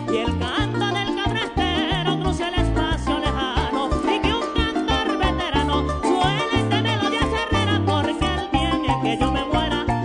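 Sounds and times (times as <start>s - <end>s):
harp playing: 0.0s - 10.0s
person singing: 0.0s - 10.0s.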